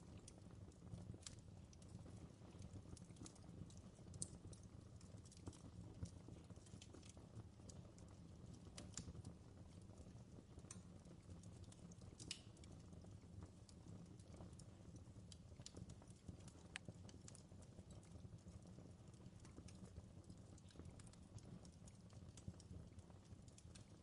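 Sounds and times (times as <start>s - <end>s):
fireplace crackling: 0.0s - 24.0s.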